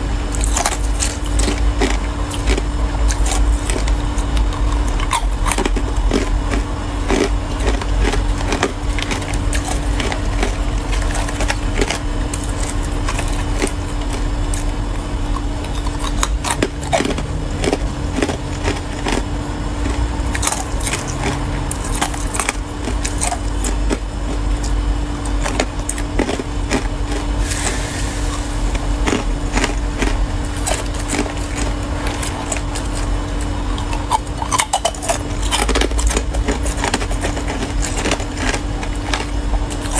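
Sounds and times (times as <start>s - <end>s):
steady low hum: 0.0s - 39.9s
ice cubes being crunched: 0.3s - 39.9s.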